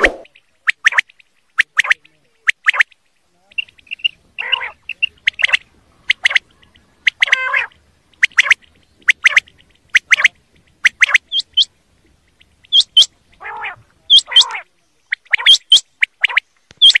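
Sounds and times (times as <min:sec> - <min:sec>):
quail calling sharp notes: 0:00.0 - 0:11.7, 0:12.3 - 0:17.0
quail raspy calls: 0:00.1 - 0:11.7, 0:12.3 - 0:17.0.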